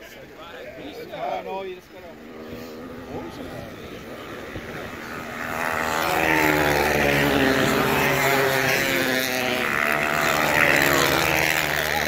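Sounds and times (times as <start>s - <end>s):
motocross bikes at full throttle: 0.0s - 12.0s.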